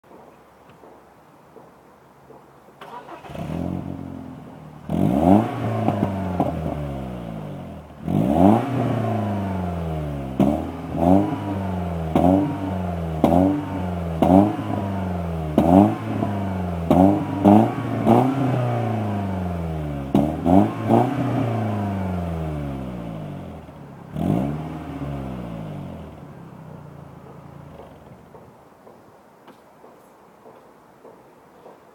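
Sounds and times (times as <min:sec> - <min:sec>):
car engine revving in blips: 0:02.8 - 0:28.6.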